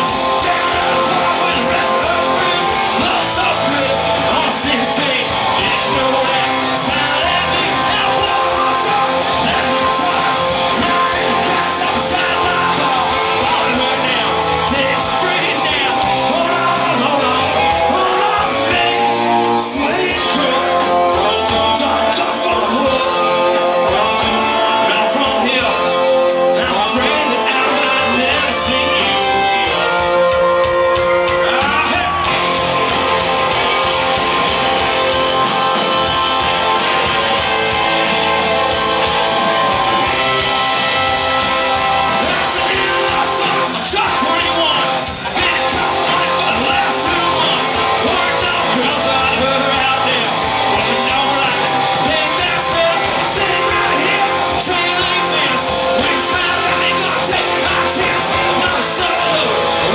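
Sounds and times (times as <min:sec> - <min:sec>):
person singing: 0:00.0 - 0:37.8, 0:38.9 - 0:59.9
rock band playing: 0:00.0 - 0:59.9.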